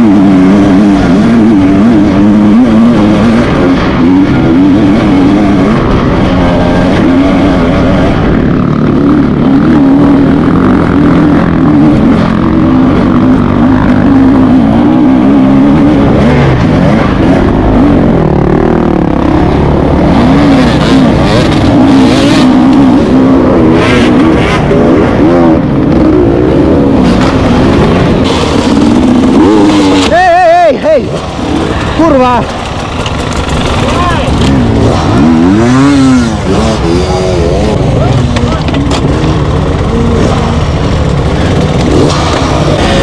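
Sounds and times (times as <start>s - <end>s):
dirt bike engine revving: 0.0s - 43.0s
other dirt bike engines: 0.0s - 43.0s.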